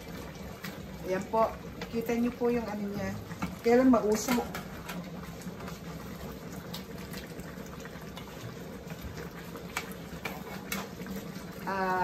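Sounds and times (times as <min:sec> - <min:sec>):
sauce boiling and sizzling in a wok: 0:00.0 - 0:12.0.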